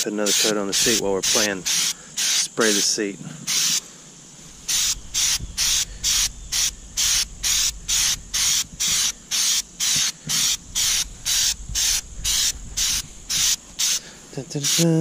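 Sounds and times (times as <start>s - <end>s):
aerosol spray can hissing: 0.2s - 3.8s, 4.6s - 15.0s.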